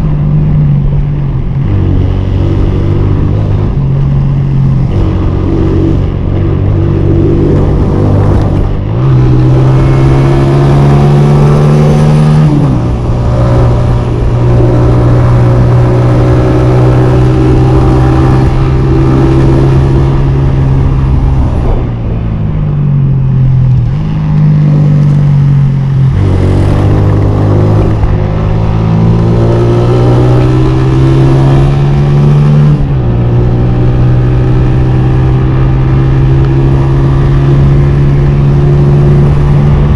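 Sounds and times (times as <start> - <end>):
steady low rush: 0.0 - 32.0
motorcycle engine revving: 0.0 - 39.9.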